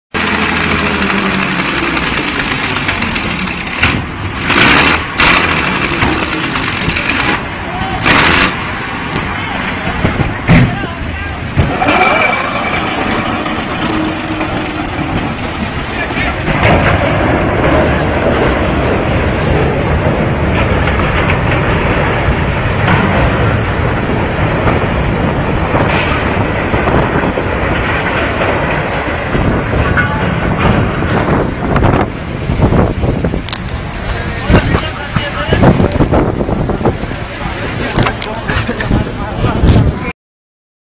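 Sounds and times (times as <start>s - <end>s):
low engine rumble: 0.1s - 40.1s
wind buffeting microphone: 0.2s - 40.1s.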